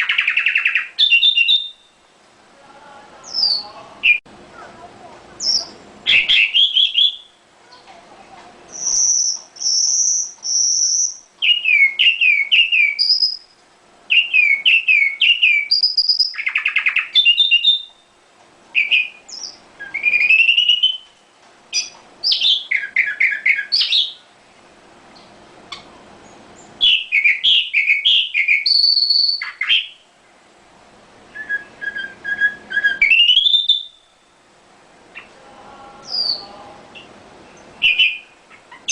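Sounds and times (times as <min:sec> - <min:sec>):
songbird singing: 0:00.0 - 0:30.5, 0:31.3 - 0:34.5, 0:35.1 - 0:38.9.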